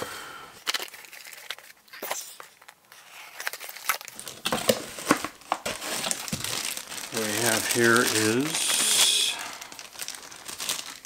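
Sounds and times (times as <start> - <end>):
plastic packaging crinkling: 0.6 - 11.0.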